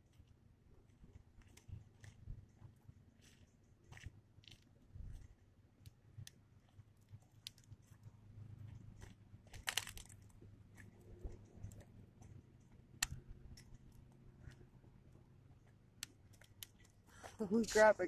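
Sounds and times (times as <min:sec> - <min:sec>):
faint clicks and crackles: 0:00.0 - 0:17.8
low hum: 0:00.0 - 0:18.0.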